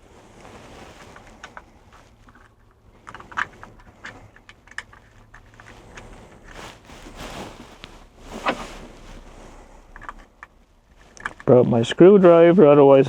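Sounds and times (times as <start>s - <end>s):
plastic and metal parts handled: 0.6s - 11.7s.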